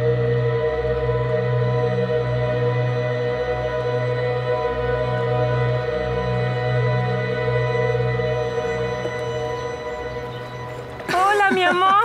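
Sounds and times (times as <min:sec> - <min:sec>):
ambient music with held notes: 0:00.0 - 0:12.0.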